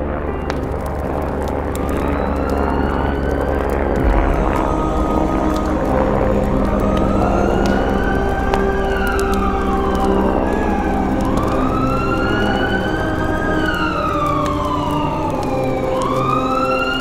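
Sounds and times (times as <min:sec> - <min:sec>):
steady drone of held tones: 0:00.0 - 0:17.0
wailing siren: 0:00.0 - 0:17.0.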